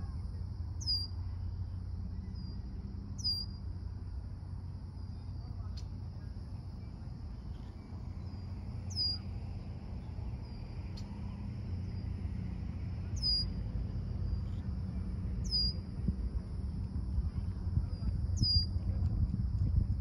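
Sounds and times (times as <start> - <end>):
high-pitched insect trill: 0.0 - 18.9
low steady rumble: 0.0 - 20.0.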